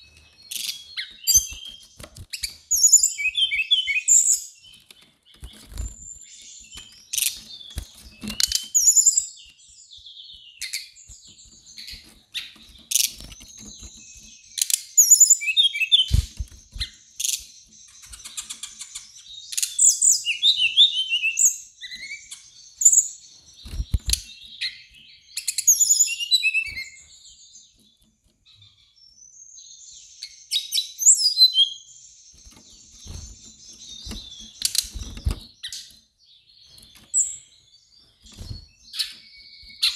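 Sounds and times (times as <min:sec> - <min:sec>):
birds singing whistled phrases: 0:00.0 - 0:39.9.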